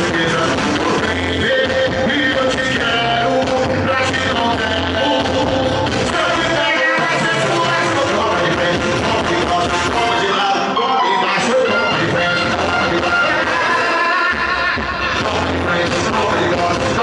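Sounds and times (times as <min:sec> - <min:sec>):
band music with singing: 0:00.0 - 0:17.0
bass line: 0:00.0 - 0:17.0.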